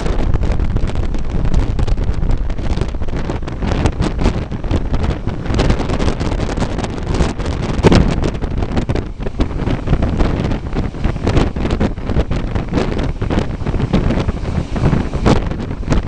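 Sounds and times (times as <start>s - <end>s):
moving train rumbling: 0.0s - 16.0s
wind buffeting microphone: 0.0s - 16.0s.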